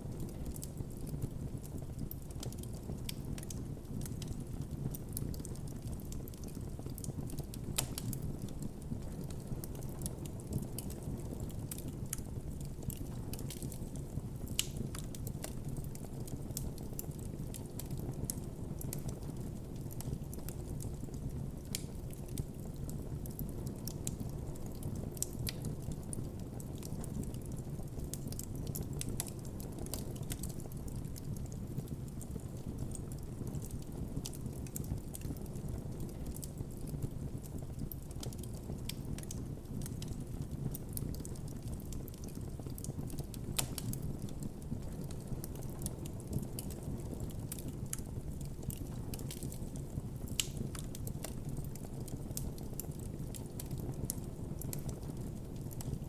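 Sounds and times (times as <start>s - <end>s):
burning wood crackling and popping: 0.0s - 56.0s
campfire flame rumble: 0.0s - 56.0s.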